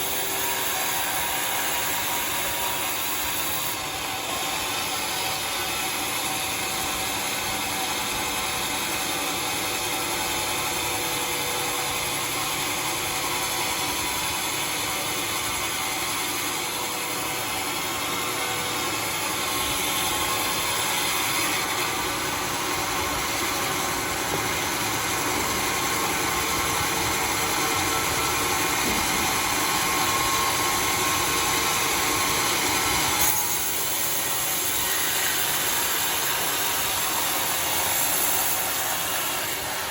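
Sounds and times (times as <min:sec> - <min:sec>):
sawmill cutting a log: 0:00.0 - 0:39.9.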